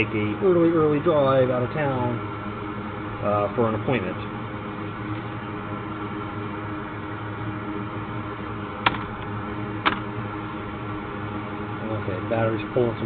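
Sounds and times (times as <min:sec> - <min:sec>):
electrical hum and fan noise: 0:00.0 - 0:13.0.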